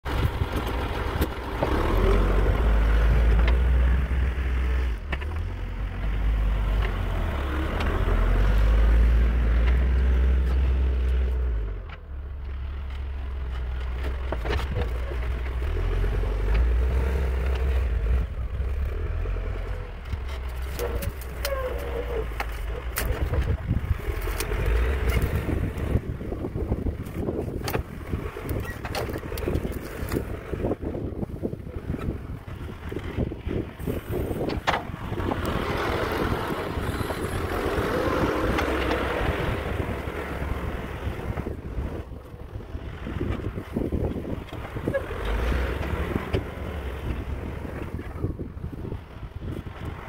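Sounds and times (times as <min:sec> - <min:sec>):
diesel engine under load: 0:00.0 - 0:50.0.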